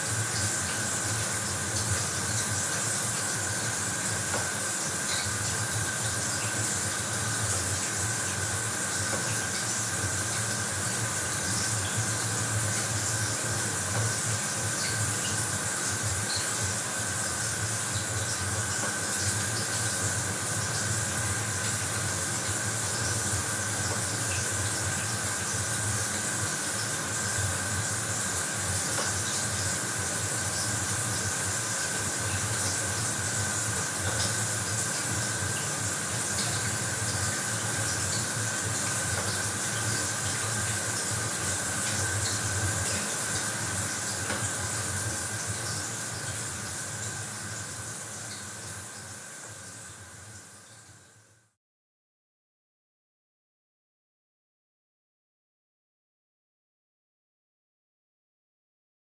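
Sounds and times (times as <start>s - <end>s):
shower water spraying: 0.0s - 49.9s.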